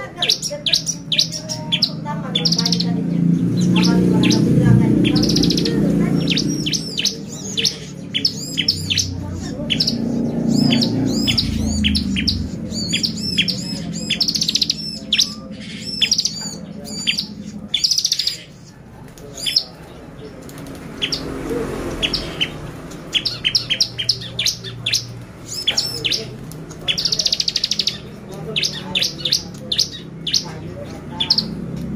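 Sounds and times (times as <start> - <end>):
bird singing with chirps and trills: 0.0 - 31.9.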